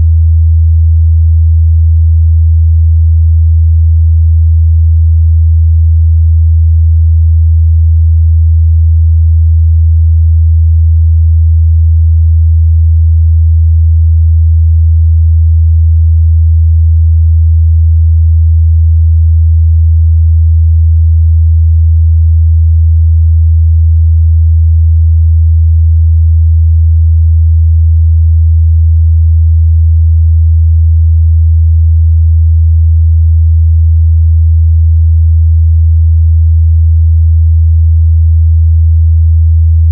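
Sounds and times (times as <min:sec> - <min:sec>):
low sine test tone: 0:00.0 - 0:39.9.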